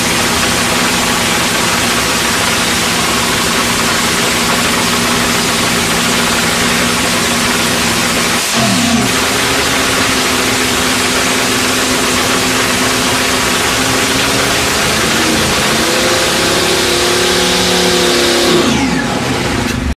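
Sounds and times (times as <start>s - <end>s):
dragster engine running loud: 0.0s - 19.9s.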